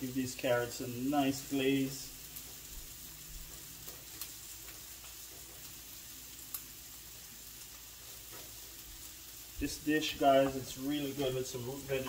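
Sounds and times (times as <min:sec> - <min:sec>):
carrots sizzling in a skillet: 0:00.0 - 0:12.0.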